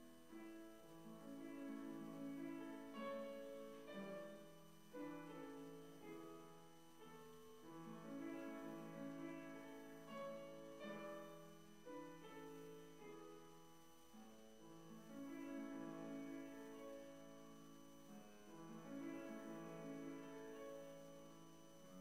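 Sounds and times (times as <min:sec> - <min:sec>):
soft slow piano music: 0:00.0 - 0:22.0.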